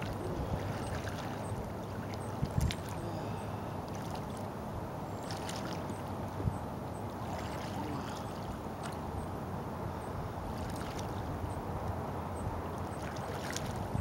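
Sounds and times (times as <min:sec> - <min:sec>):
small water splashes: 0:00.0 - 0:09.2, 0:10.4 - 0:11.5, 0:12.7 - 0:14.0
water lapping around boat: 0:00.0 - 0:14.0.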